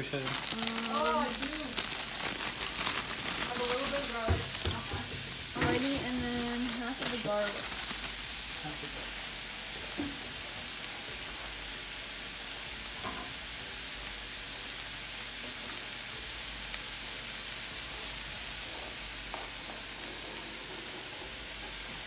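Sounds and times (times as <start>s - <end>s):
greens sizzling in a pan: 0.0s - 22.0s.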